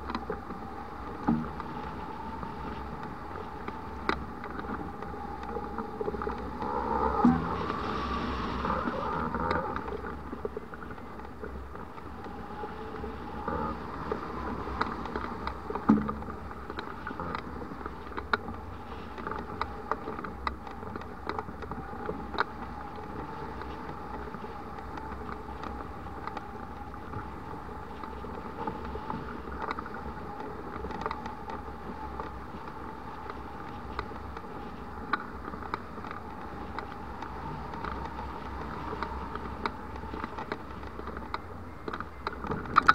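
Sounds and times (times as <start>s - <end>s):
wind rushing over camera: 0.0s - 42.9s.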